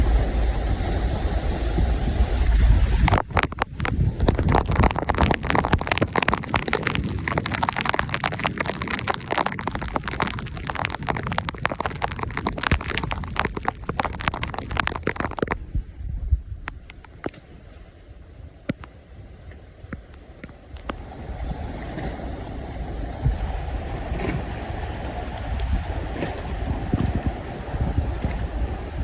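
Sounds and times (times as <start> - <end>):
wind and rain on microphone: 0.0 - 29.0.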